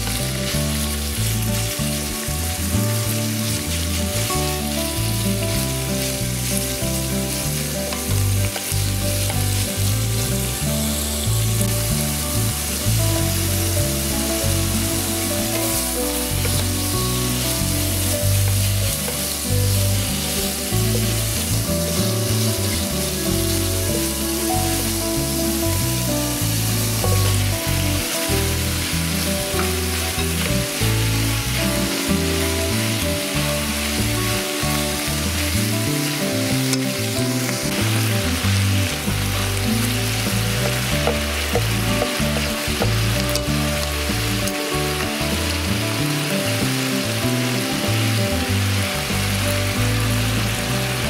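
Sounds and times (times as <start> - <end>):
chopsticks stirring in a pan: 0.0 - 48.1
background music: 0.0 - 51.0
meat and cabbage sizzling in a pan: 0.0 - 51.0.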